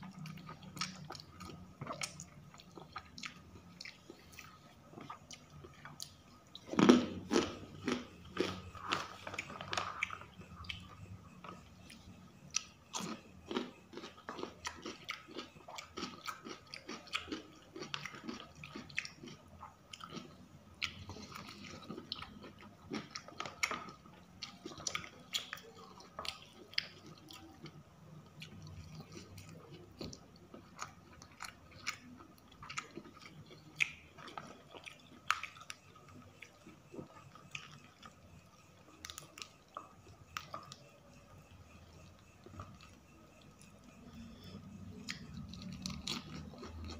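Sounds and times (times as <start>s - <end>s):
chewing and crunching food: 0.0s - 46.9s.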